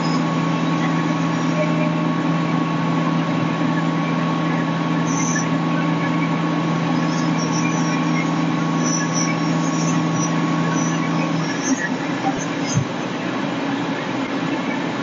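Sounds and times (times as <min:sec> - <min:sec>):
fire truck engine running: 0:00.0 - 0:15.0
thin high whine: 0:00.0 - 0:15.0.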